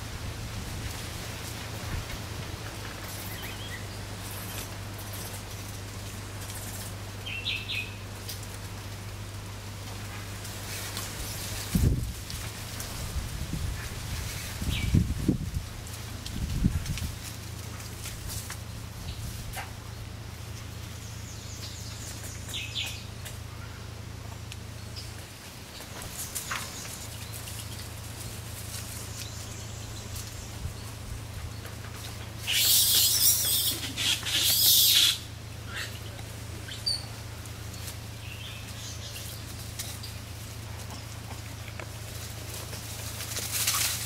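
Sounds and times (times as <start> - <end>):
rustling in dry leaves: 0.0 - 44.0
steady low hum: 0.0 - 44.0.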